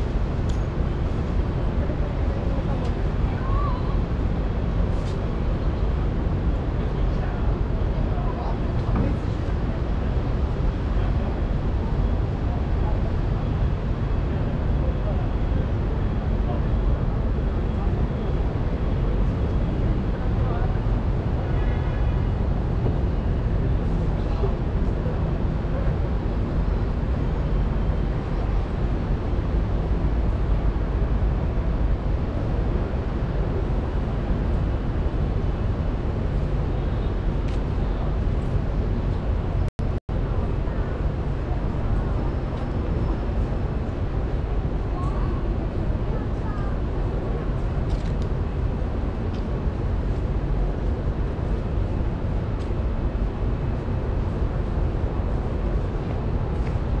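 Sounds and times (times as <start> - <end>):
steady outdoor rumble: 0.0 - 57.0.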